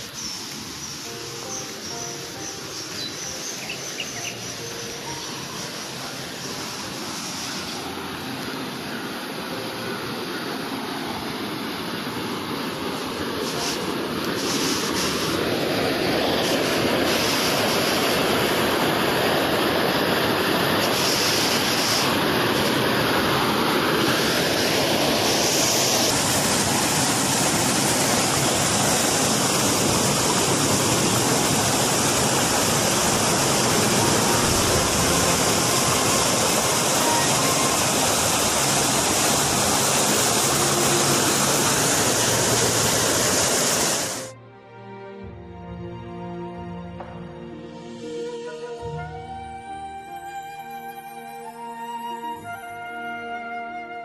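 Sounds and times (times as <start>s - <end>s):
water rushing over a weir: 0.0s - 44.4s.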